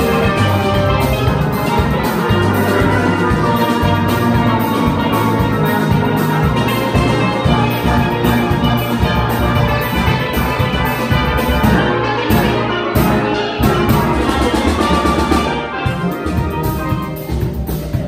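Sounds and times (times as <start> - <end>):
bass pans: 0.0 - 18.0
drum kit: 0.0 - 18.0
steel pans playing: 0.0 - 18.0.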